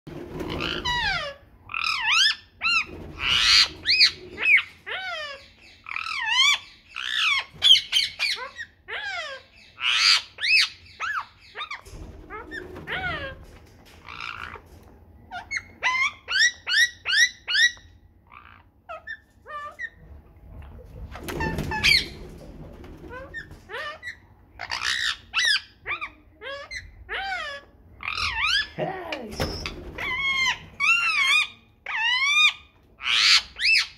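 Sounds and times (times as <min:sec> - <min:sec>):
parakeet calling: 0:00.6 - 0:13.4, 0:15.3 - 0:20.0, 0:23.2 - 0:28.8, 0:29.4 - 0:33.9.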